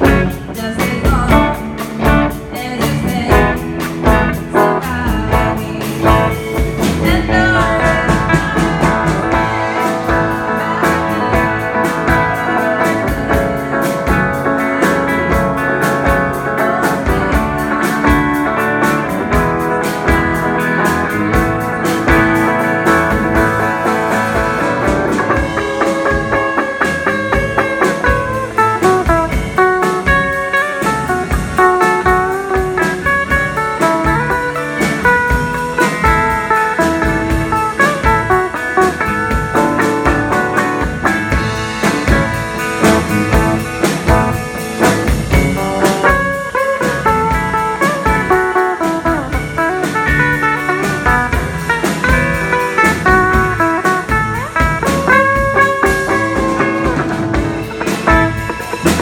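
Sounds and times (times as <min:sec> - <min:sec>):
drum kit beat: 0:00.0 - 0:59.0
lead guitar melody: 0:00.0 - 0:59.0.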